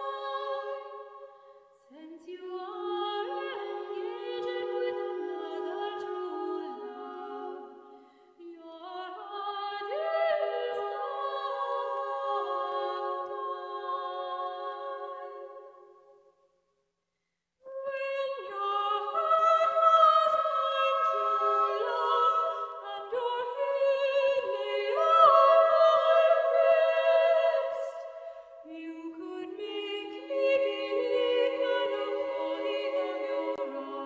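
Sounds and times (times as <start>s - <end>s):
voices singing in harmony: 0.0s - 16.3s, 17.7s - 34.0s.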